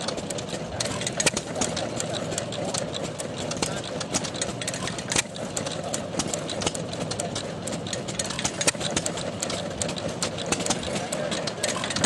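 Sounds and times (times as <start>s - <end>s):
sharp irregular clicks: 0.0s - 12.0s
tractor engine idling: 0.0s - 12.0s.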